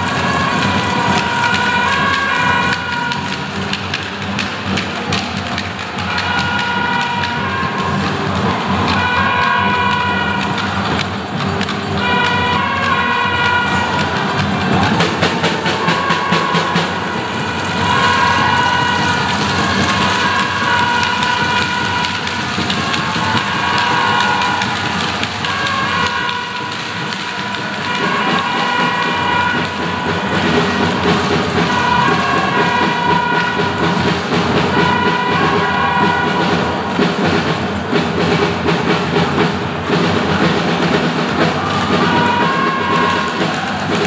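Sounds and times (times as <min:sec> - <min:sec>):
crowd noise: 0:00.0 - 0:44.0
drum beating: 0:00.0 - 0:44.0
hand clappers rattling: 0:00.0 - 0:44.0.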